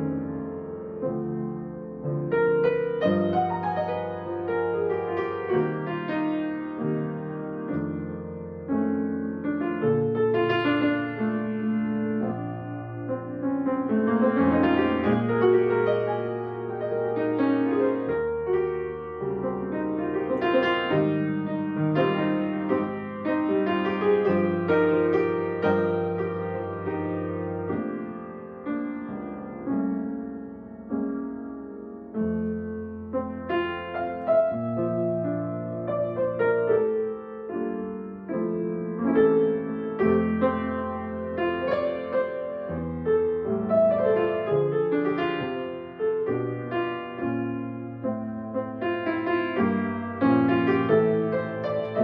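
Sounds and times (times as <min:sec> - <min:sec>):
solo piano chords: 0:00.0 - 0:52.0.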